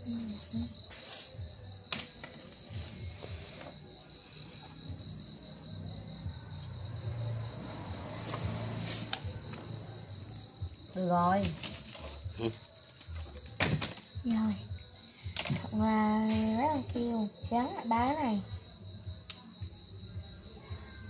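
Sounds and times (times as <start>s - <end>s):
crickets trilling: 0.0s - 21.0s
faint background music: 0.0s - 21.0s.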